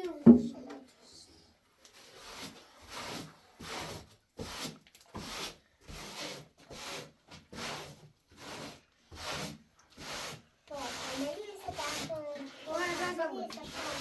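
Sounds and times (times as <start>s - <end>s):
rubbing strokes on rough surface: 1.8s - 14.0s.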